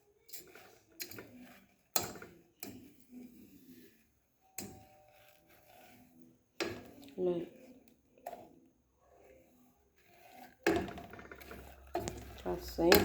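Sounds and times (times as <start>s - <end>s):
spoon scraping against a pan: 0.0s - 13.0s.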